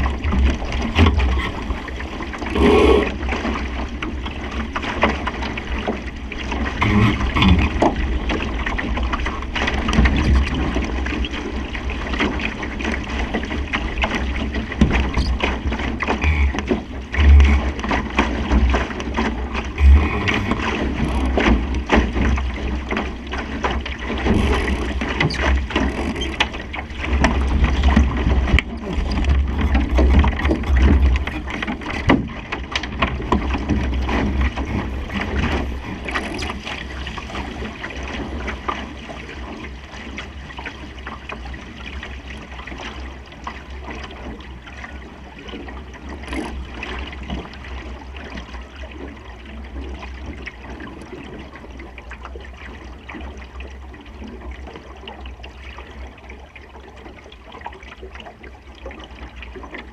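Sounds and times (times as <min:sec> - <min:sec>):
knocks and splashes: 0:00.0 - 0:56.2
water rushing along hull: 0:00.0 - 0:59.9.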